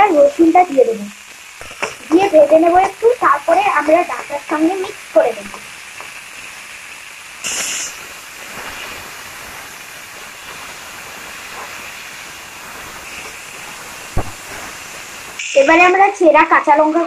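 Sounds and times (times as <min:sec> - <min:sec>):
loud hiss: 0:00.0 - 0:17.0
vegetables sizzling in oil: 0:00.0 - 0:17.0.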